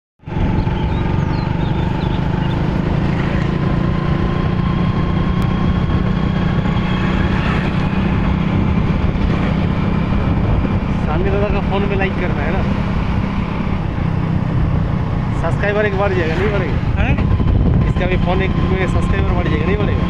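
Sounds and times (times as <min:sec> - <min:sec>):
road and wind noise: 0:00.2 - 0:20.0
vehicle engine hum: 0:00.2 - 0:20.0.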